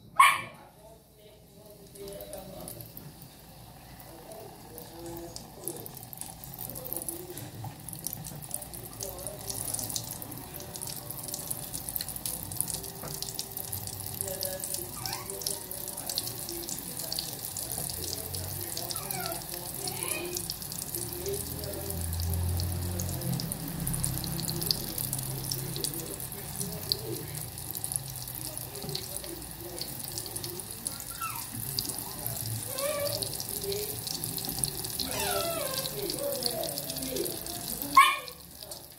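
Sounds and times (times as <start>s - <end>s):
batter sizzling in hot oil: 1.6s - 38.9s.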